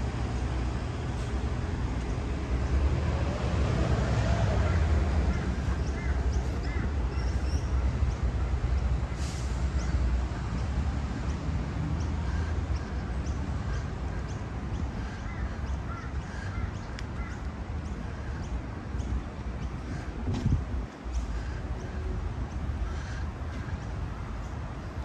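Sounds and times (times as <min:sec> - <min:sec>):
low outdoor rumble: 0:00.0 - 0:25.0
birds calling: 0:04.1 - 0:25.0.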